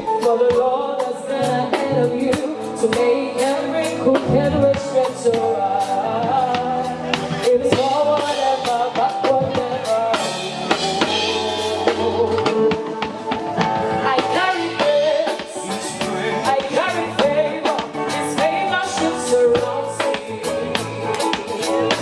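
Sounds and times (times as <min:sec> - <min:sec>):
drum kit beat: 0:00.0 - 0:22.0
live gospel band music: 0:00.0 - 0:22.0
person singing: 0:00.0 - 0:22.0.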